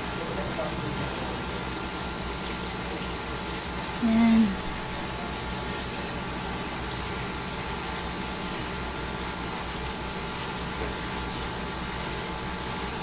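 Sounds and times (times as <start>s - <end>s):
fan hum and hiss: 0.0s - 13.0s.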